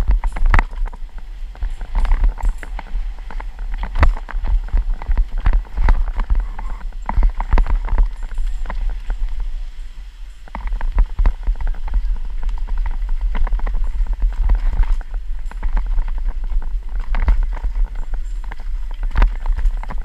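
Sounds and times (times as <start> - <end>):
bike clattering over rocks: 0.0 - 9.4, 10.4 - 20.0
low rumble: 0.0 - 20.0.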